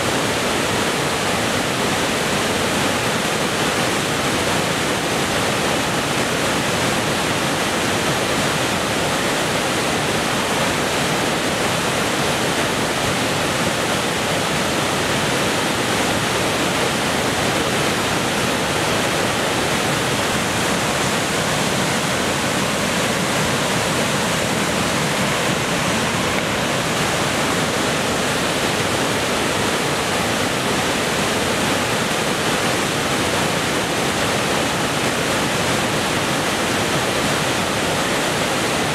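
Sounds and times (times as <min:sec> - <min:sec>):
white water rushing through rapids: 0:00.0 - 0:38.9.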